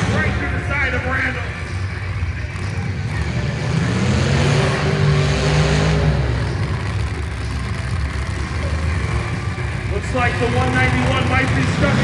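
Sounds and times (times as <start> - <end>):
car engine revving: 0.0 - 12.0
rumble of other engines: 0.0 - 12.0.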